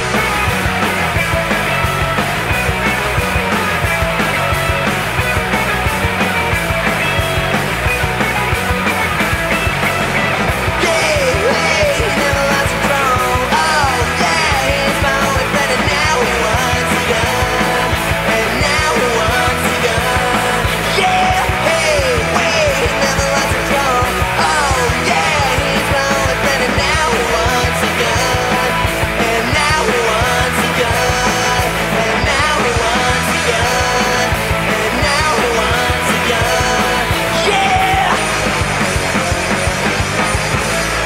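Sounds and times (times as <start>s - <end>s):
fast rock music: 0.0s - 41.0s.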